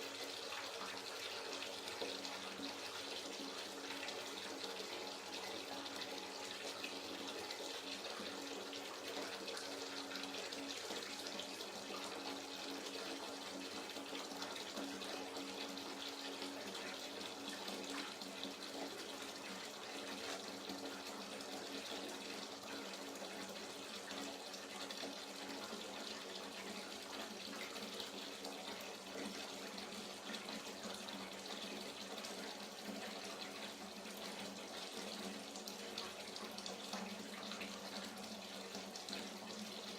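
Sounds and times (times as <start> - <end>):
tap water filling bathtub: 0.0 - 39.9.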